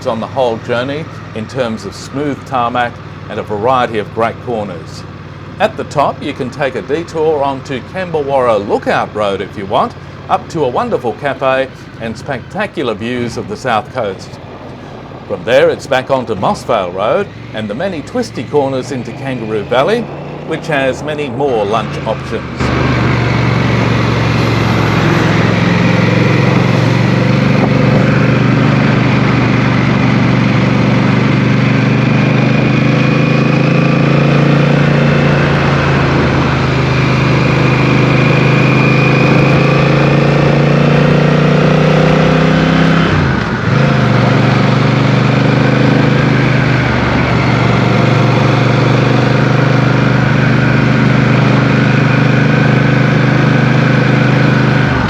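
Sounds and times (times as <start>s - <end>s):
motorcycle engine running: 0.0s - 55.0s
rushing wind: 0.0s - 55.0s.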